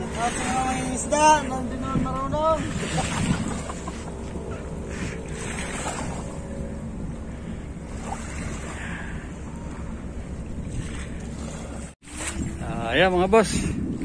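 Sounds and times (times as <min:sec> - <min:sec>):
small waves washing: 0:00.0 - 0:14.0
wind buffeting microphone: 0:00.0 - 0:14.0.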